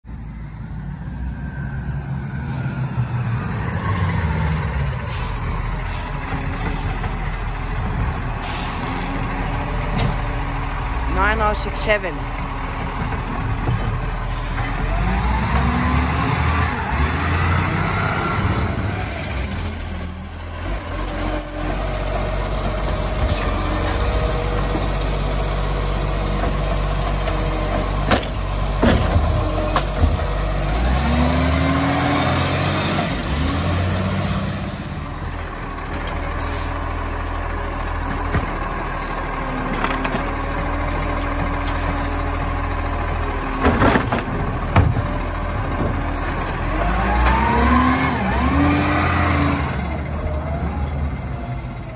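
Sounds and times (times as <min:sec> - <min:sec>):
garbage truck diesel engine: 0:00.0 - 0:51.9.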